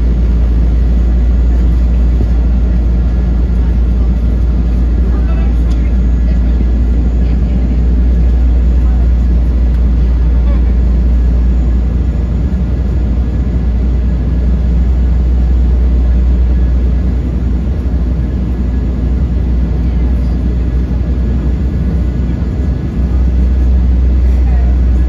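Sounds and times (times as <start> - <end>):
airliner cabin engine hum: 0.0 - 25.0.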